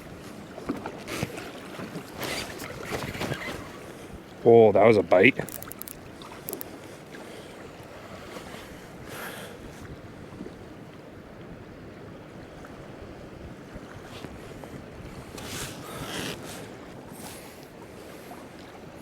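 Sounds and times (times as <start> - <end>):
small waves lapping on hull: 0.0 - 19.0.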